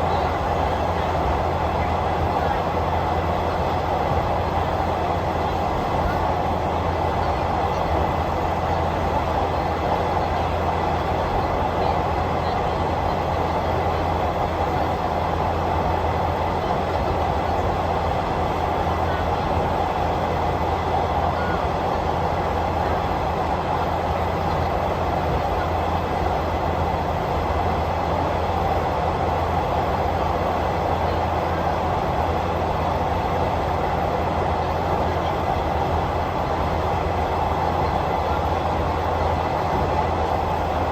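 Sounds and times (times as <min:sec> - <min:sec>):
train running on track: 0:00.0 - 0:40.9.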